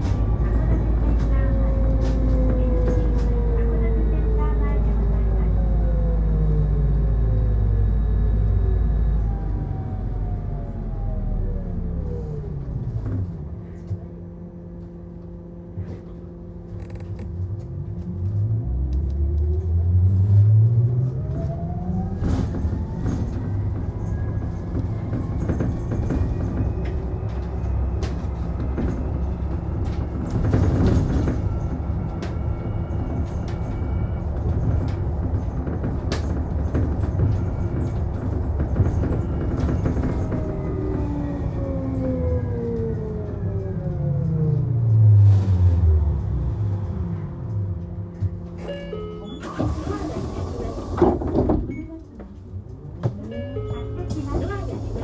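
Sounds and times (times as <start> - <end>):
bus driving noise: 0.0 - 55.0
bus motor whine: 0.0 - 55.0.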